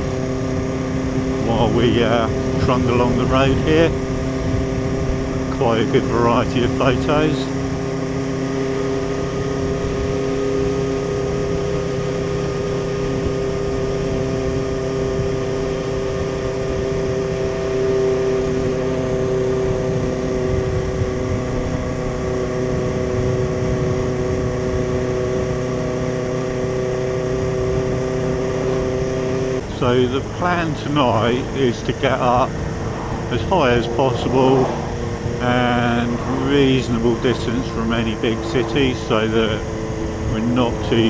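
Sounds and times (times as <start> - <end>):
motorcycle engine cruising: 0.0 - 41.0
road and wind noise: 0.0 - 41.0.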